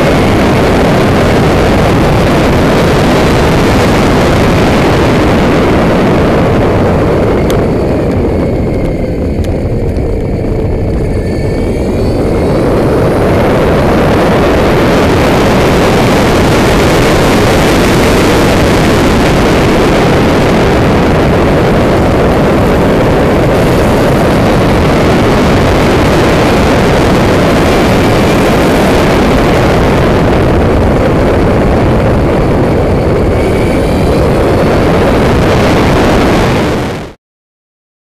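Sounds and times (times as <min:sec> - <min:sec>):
faint high whine: 0:00.0 - 0:37.2
loud wind rush: 0:00.0 - 0:37.2.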